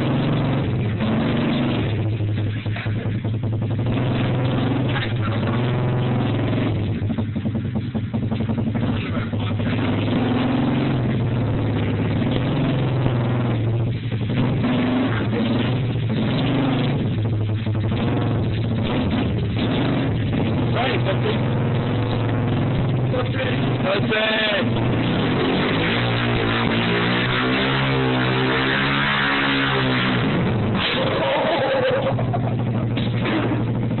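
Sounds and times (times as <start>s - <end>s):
motorbike engine running: 0.0s - 28.6s, 29.9s - 34.0s.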